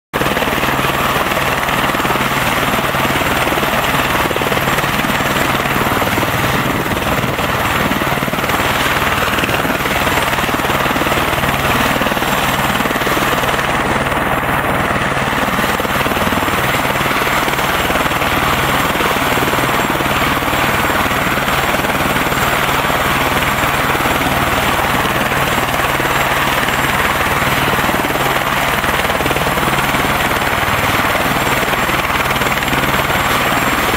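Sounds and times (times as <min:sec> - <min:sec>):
helicopter turbine whine and rotor: 0:00.2 - 0:33.9.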